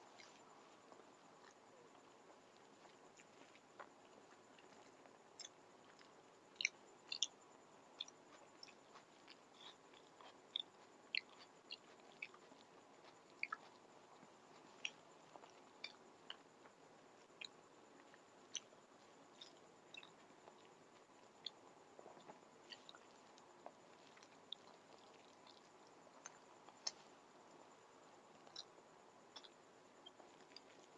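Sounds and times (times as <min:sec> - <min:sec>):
mouth sounds of eating: 0:00.0 - 0:30.9.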